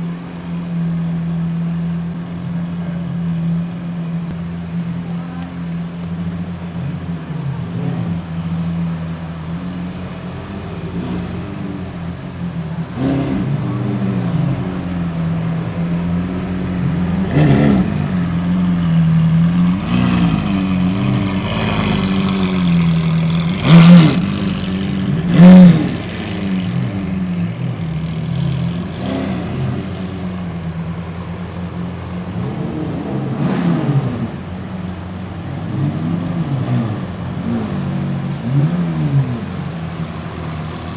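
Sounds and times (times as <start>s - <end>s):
car engines idling: 0.0s - 40.9s
engine throttle revs: 0.0s - 40.9s.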